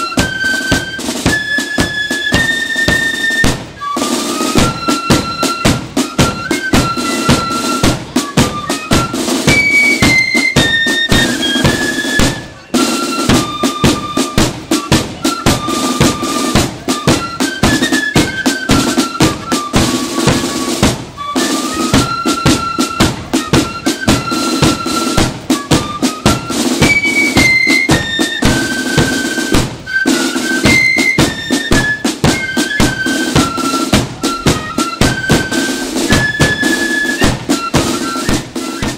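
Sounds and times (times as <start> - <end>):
flutes playing melody: 0.0 - 38.9
snare drum strokes: 0.0 - 38.9.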